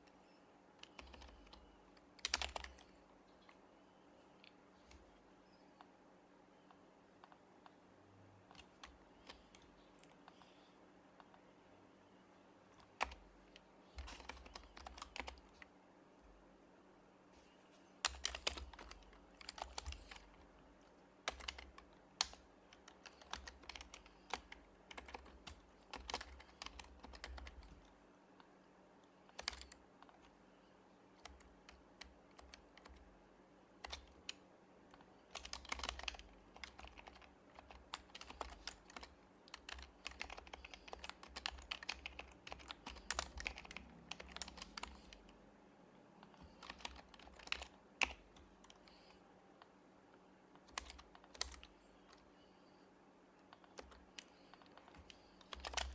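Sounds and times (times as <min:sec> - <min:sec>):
soft keyboard keystrokes: 0:00.0 - 0:03.6, 0:06.6 - 0:07.8, 0:08.4 - 0:11.5, 0:12.7 - 0:15.7, 0:17.4 - 0:30.4, 0:31.2 - 0:33.1, 0:33.8 - 0:45.4, 0:46.2 - 0:52.8, 0:53.4 - 0:55.9.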